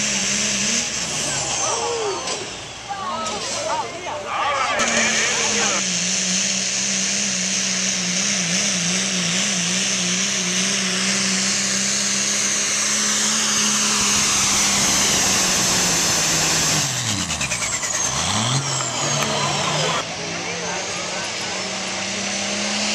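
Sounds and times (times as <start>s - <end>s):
diesel truck engine at full throttle: 0.0s - 22.9s.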